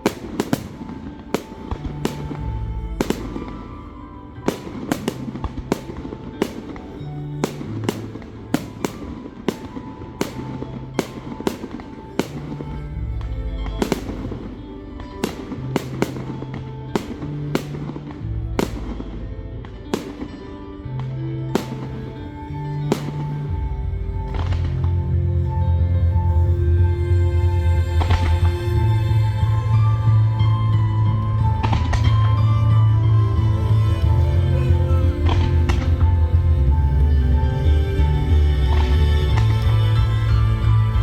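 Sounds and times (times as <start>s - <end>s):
fireworks bursting: 0.0s - 26.5s, 28.0s - 41.0s
music with bass line: 1.7s - 6.1s, 12.2s - 41.0s.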